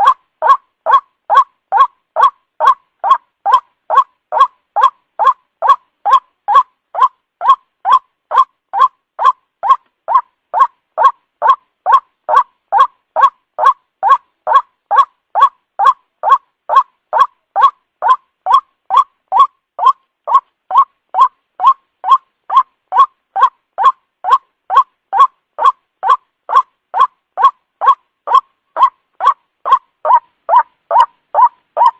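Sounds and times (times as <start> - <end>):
repeated bird call: 0.0 - 31.9.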